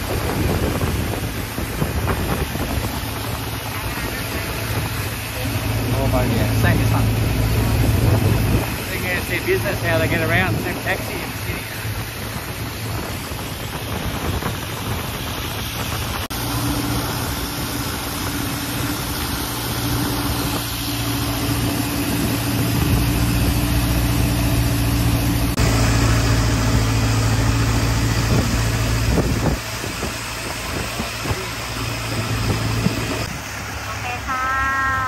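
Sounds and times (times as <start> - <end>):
boat engine humming: 0.0 - 35.0.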